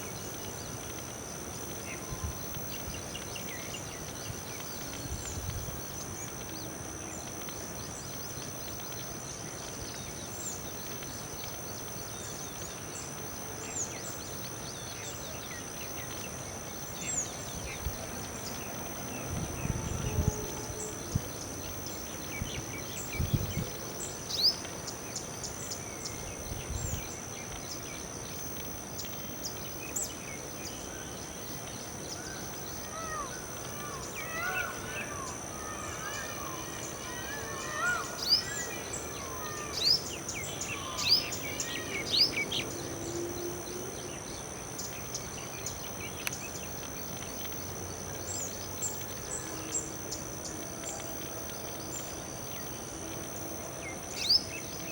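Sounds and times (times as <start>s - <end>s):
steady high-pitched drone: 0.0s - 47.5s.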